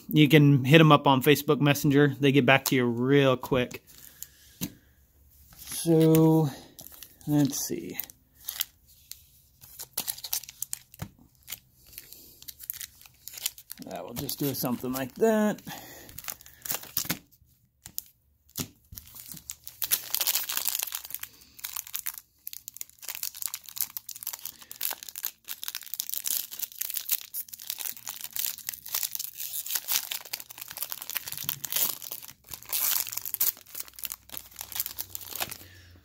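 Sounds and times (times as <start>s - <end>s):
foil wrapper crinkling and tearing: 5.6s - 35.9s.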